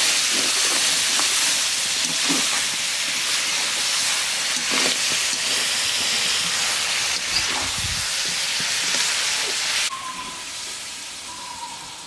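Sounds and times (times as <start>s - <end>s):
meat sizzling in a pan: 0.0s - 11.4s.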